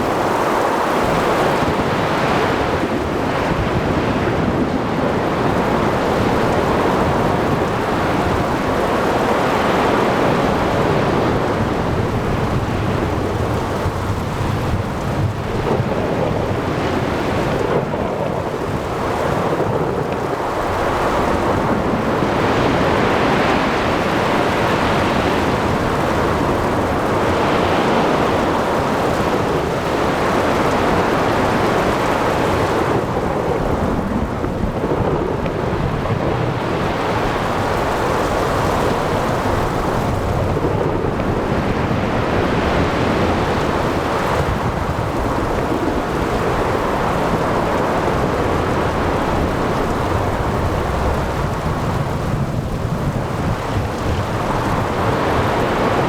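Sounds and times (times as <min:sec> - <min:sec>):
steady rain: 0:00.0 - 0:56.0
wind: 0:00.0 - 0:56.0.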